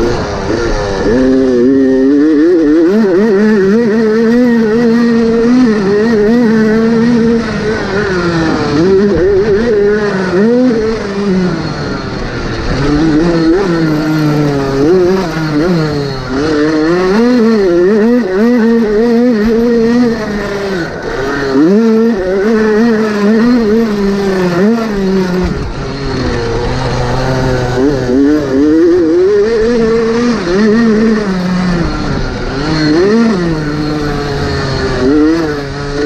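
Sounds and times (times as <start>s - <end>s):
motocross motorcycle engine racing: 0.0s - 36.0s.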